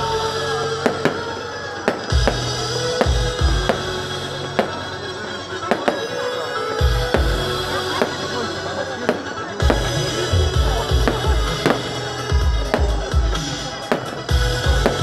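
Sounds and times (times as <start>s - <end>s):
loud music with heavy bass: 0.0s - 15.0s
fireworks bangs and cracks: 0.5s - 15.0s.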